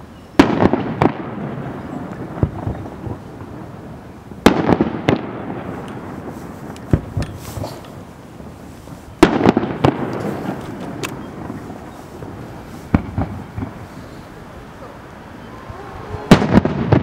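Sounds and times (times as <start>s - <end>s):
firework shells bursting: 0.4s - 14.5s, 16.2s - 17.0s.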